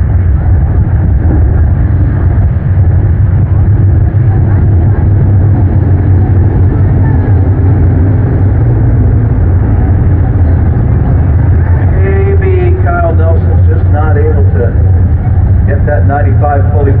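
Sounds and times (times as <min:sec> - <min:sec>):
race car engines rumbling: 0:00.0 - 0:17.0.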